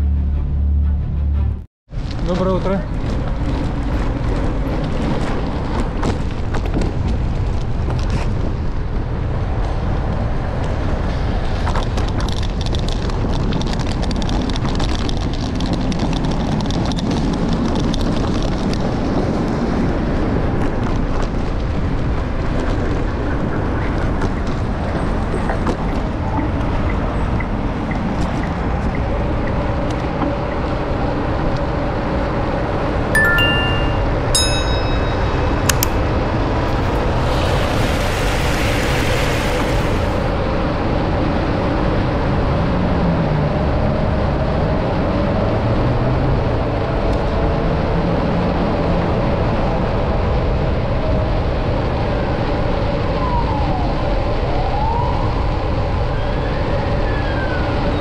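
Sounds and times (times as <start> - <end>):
street and tyre noise: 0.0 - 58.0.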